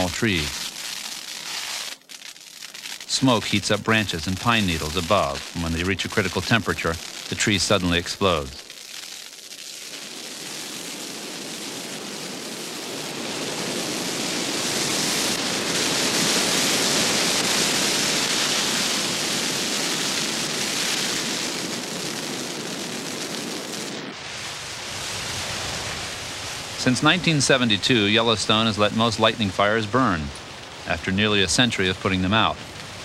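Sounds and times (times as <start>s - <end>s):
fire flames rushing: 0.0s - 33.0s.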